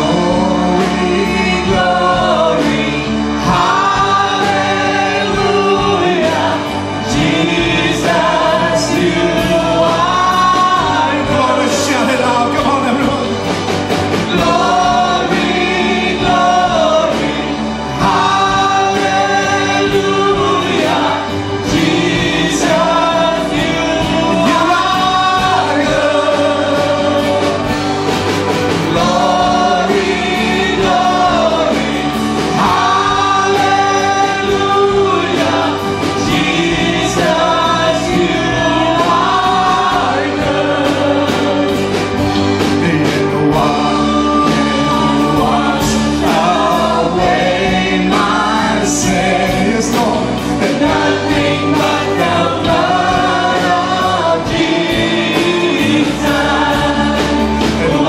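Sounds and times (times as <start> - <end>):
electric guitars: 0.0 - 58.0
men and women singing together: 0.0 - 58.0.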